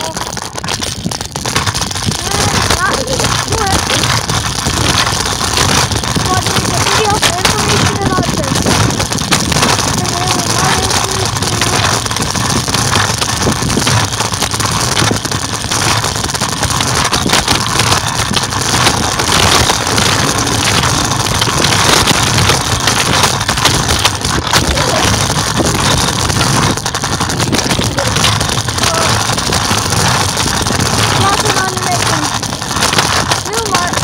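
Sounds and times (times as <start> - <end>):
scooter wheels rumbling on pavement: 0.0 - 34.0.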